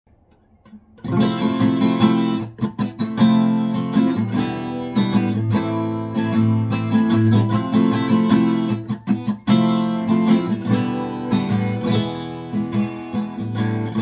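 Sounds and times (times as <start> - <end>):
acoustic guitar strumming chords: 0.6 - 14.0.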